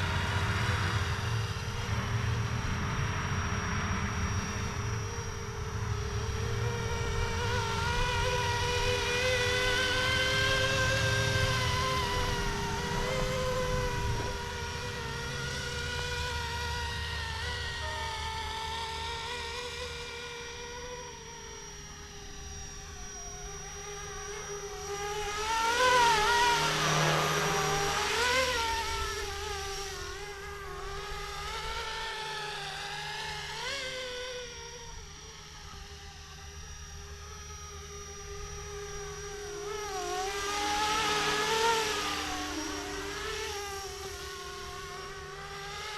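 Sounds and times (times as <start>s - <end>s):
rc helicopter motor whine: 0.0s - 45.9s.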